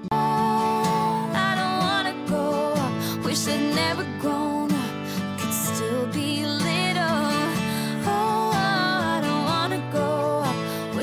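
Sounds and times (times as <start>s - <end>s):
slow pop song with acoustic guitar: 0.0s - 11.0s.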